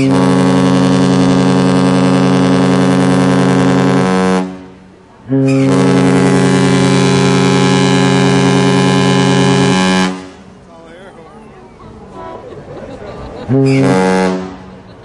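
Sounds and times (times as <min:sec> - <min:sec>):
deep ship horn blast: 0:00.0 - 0:10.6, 0:13.4 - 0:15.0.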